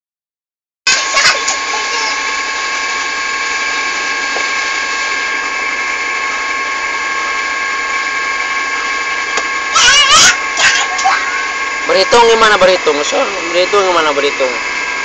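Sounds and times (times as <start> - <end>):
steady mechanical whir: 0.9 - 15.0.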